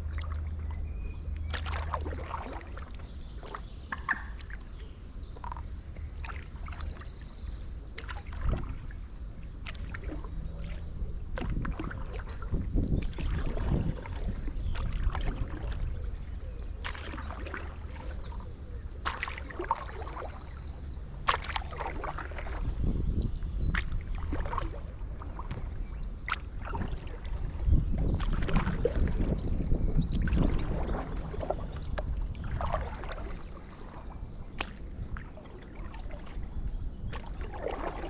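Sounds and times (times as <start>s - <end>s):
paddle pulling through water: 0.0s - 38.0s
water splashes and drips: 0.0s - 38.0s
wind rumble on microphone: 0.0s - 38.0s.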